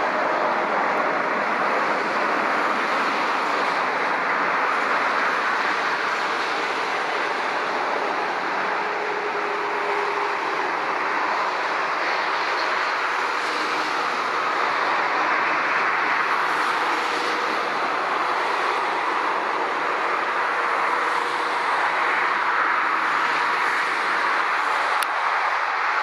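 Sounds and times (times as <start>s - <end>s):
motorway traffic roar: 0.0s - 26.0s.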